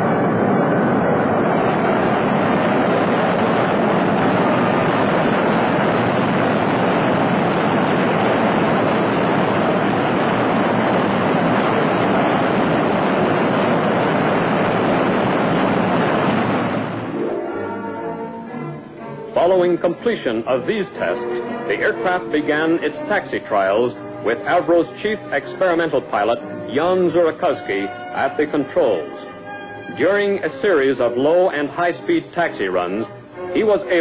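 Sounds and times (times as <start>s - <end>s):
loud jet engine roar: 0.0s - 34.0s.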